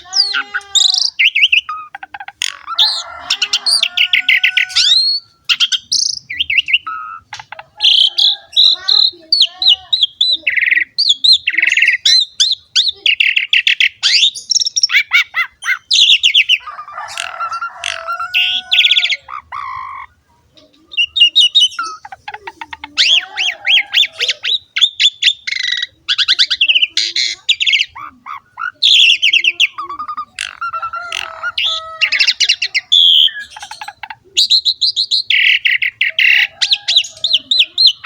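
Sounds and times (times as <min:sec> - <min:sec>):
starling singing chattering trills: 0:00.0 - 0:38.0.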